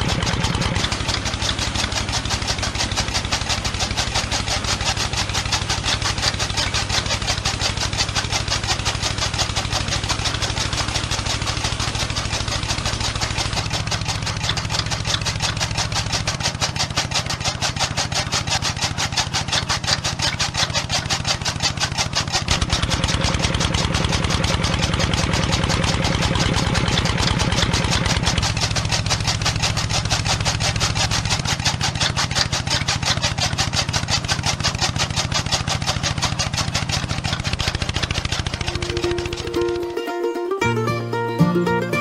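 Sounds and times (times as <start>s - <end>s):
small motor ticking: 0.0s - 40.0s.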